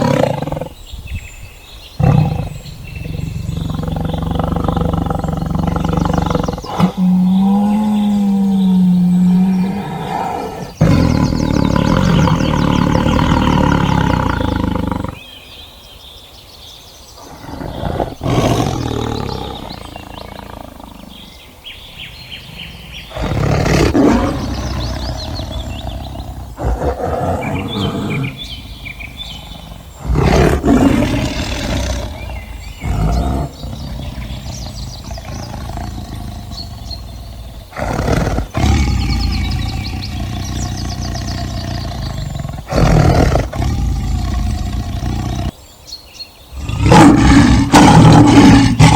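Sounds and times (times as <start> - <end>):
big cats roaring and growling: 0.0 - 0.9, 1.9 - 15.6, 17.2 - 45.6, 46.5 - 48.9.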